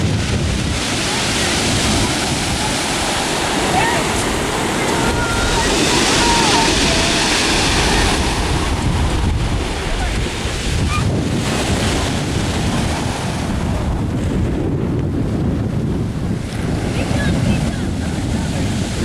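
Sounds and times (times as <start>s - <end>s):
sea surf breaking on shore: 0.0s - 19.0s
wind buffeting microphone: 0.0s - 19.0s.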